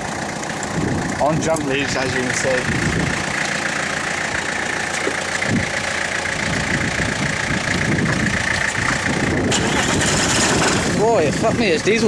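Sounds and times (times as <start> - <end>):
diesel engine cranking and firing: 0.0 - 12.0.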